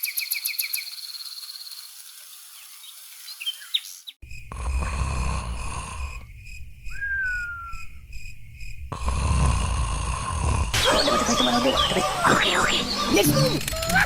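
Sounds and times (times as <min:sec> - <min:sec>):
crickets chirping: 0:00.0 - 0:11.9.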